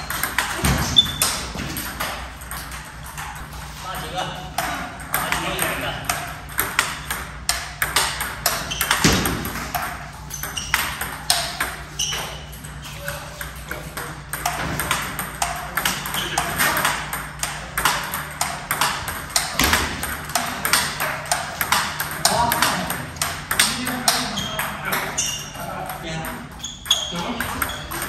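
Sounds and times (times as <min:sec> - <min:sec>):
table tennis balls clicking: 0:00.0 - 0:28.0.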